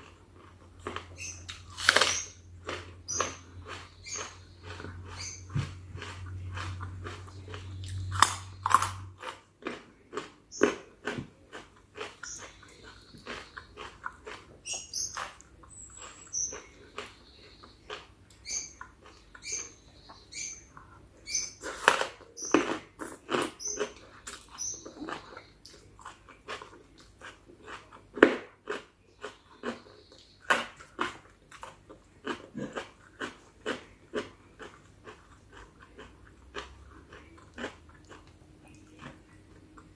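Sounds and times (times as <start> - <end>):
wet chewing and lip-smacking: 0.0 - 21.0, 21.6 - 39.9.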